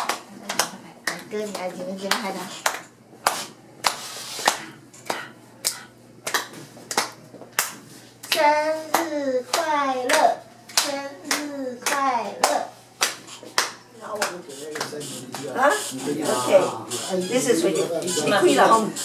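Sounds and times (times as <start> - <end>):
hand clapping: 0.0 - 15.6.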